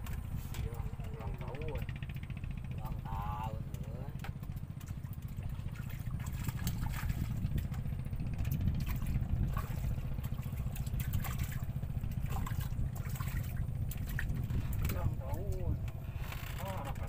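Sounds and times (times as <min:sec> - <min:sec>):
small engine running: 0:00.1 - 0:17.0.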